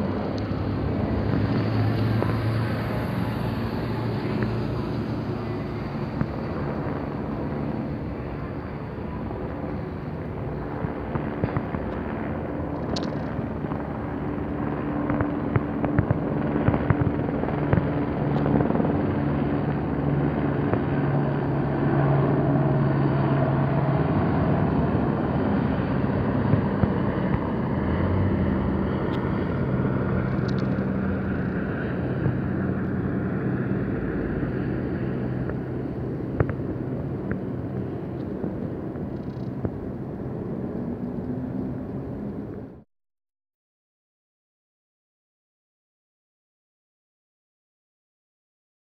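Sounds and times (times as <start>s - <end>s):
helicopter flying overhead: 0.0s - 42.8s.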